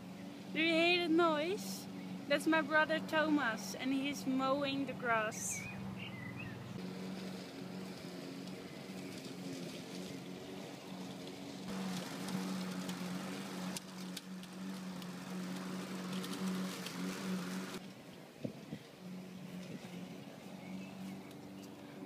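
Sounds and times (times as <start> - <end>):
lawn mower running: 0.0 - 22.0.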